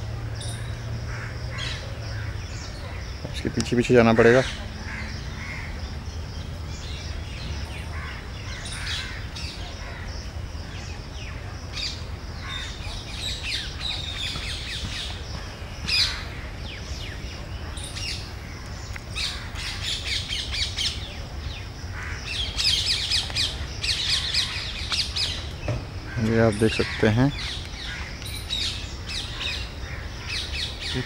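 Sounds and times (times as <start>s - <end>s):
birds chirping and calling: 0.0s - 31.0s.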